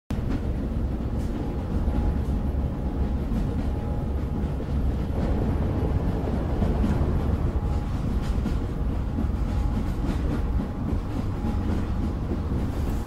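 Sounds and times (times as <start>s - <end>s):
wind: 0.1s - 13.0s
boat rumble: 0.2s - 13.0s.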